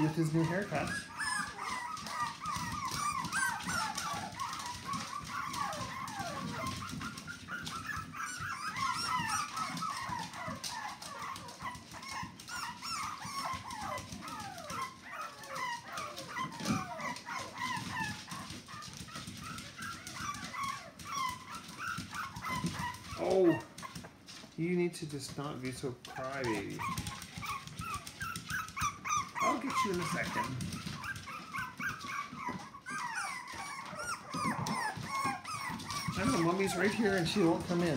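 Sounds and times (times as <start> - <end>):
puppies whimpering and squealing: 0.0 - 24.6, 25.3 - 37.9.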